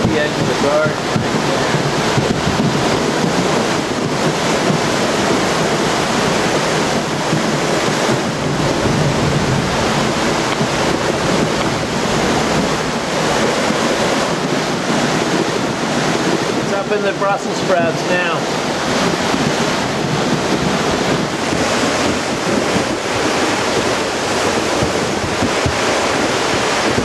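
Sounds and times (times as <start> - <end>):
brook rushing water: 0.0 - 27.0.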